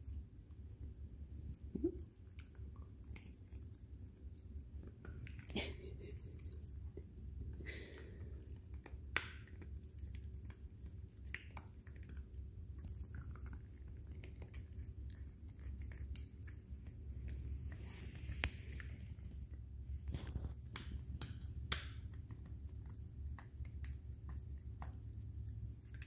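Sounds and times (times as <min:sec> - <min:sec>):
puppy gnawing on a chew: 0:00.0 - 0:26.0.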